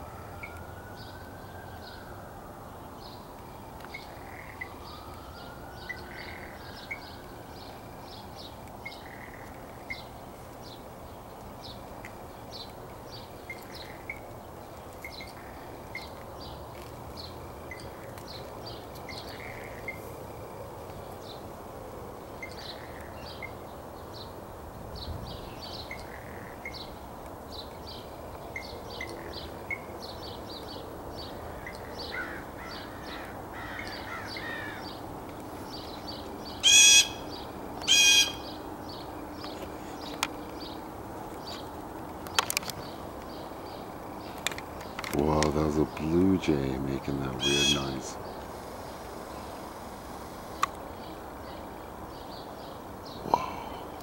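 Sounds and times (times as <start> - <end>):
birds chirping: 2.7 - 54.0.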